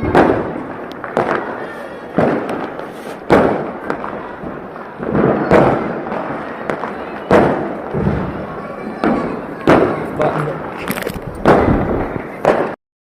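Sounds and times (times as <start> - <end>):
firecrackers banging: 0.0 - 12.8.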